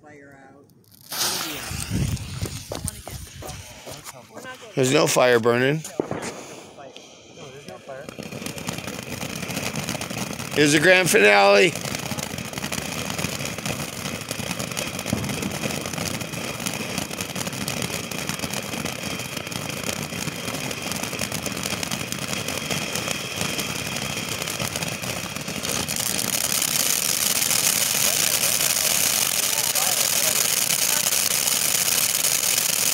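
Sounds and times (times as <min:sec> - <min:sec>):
firework fountain hissing: 0:00.8 - 0:32.9.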